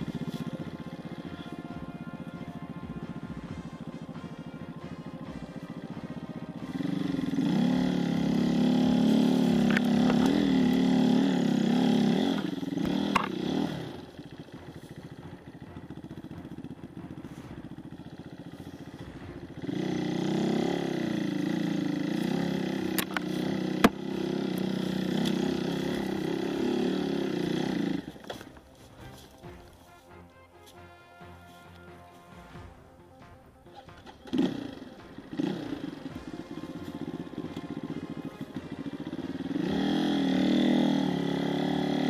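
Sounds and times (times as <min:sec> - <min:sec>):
dirt bike engine revving: 0:00.0 - 0:29.8, 0:33.7 - 0:42.0.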